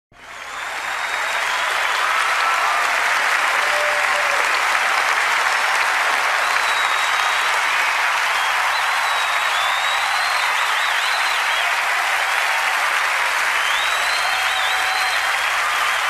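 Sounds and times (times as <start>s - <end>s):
audience applauding: 0.1s - 16.0s.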